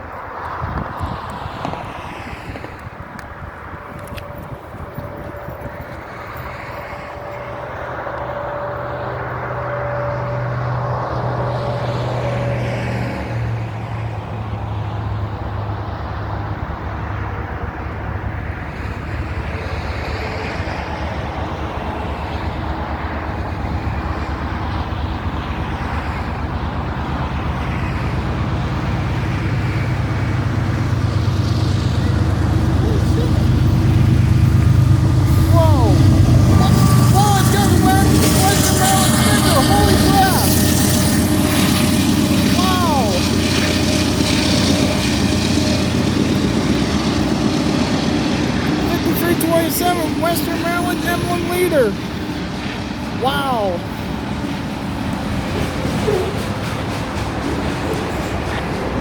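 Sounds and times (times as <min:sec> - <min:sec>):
diesel locomotive engines humming: 0:00.0 - 0:59.0.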